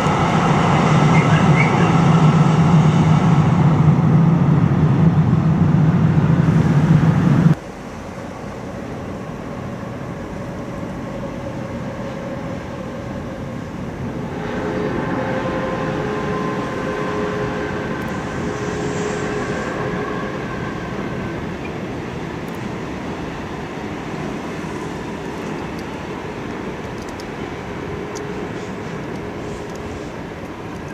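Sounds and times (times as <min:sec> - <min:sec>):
electric freight train humming: 0:00.0 - 0:30.9
train rumbling: 0:00.0 - 0:30.9.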